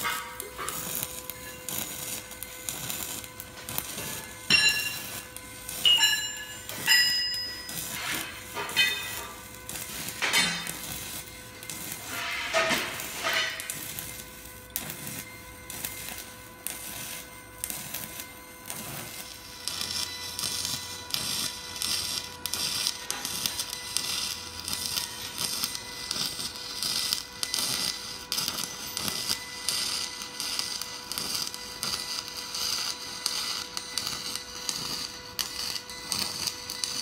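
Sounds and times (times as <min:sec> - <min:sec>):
constant buzzing tone: 0:00.0 - 0:37.0
welding arc crackling: 0:00.0 - 0:37.0.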